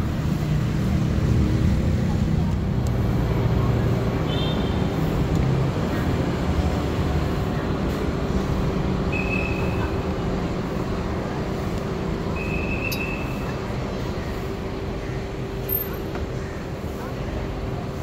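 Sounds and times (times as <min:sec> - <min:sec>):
bus engine hum: 0:00.0 - 0:18.0
city traffic: 0:00.0 - 0:18.0
road noise: 0:00.0 - 0:18.0.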